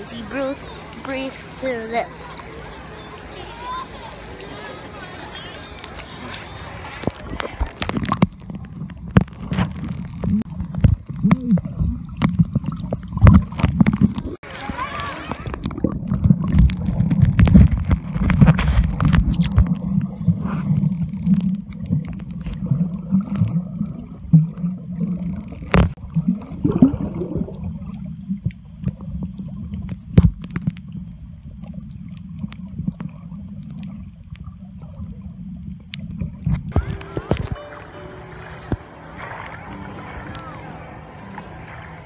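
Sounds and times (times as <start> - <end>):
underwater rumble and gurgling: 4.9 - 42.0.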